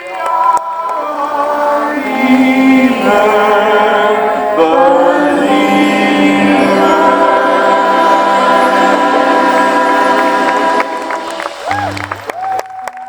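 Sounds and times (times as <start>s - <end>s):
wordless sung notes: 0.0s - 12.2s
low drone: 0.7s - 12.5s.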